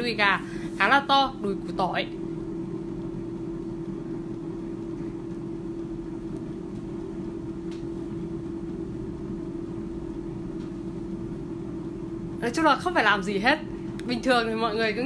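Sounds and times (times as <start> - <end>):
air fryer fan humming: 0.0 - 15.0.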